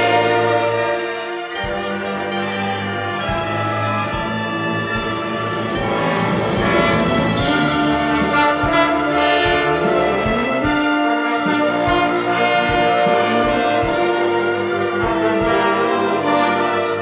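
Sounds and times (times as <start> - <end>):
symphony orchestra playing: 0.0 - 17.0
percussive strikes: 3.2 - 17.0.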